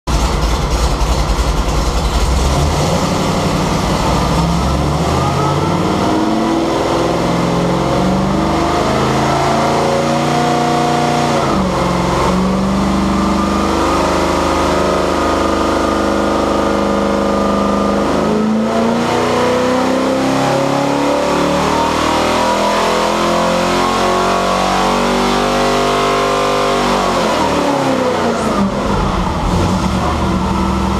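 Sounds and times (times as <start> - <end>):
car engine revving: 0.1 - 30.9.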